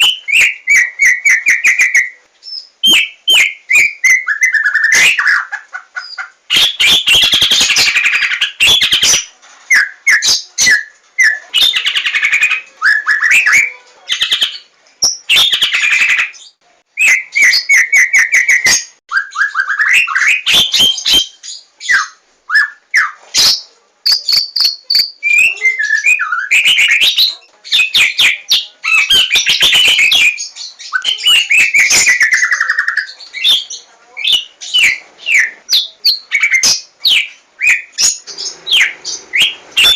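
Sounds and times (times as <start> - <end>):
bird singing whistled phrases: 0.0 - 5.4, 6.5 - 39.9.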